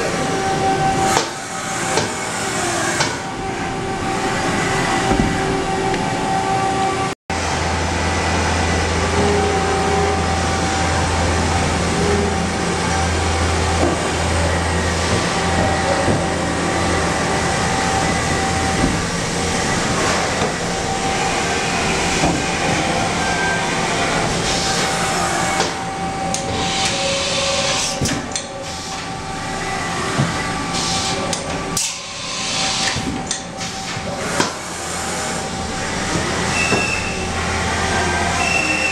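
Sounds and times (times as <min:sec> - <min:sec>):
machining center running: 0:00.0 - 0:38.9
thin steady whine: 0:00.0 - 0:38.9.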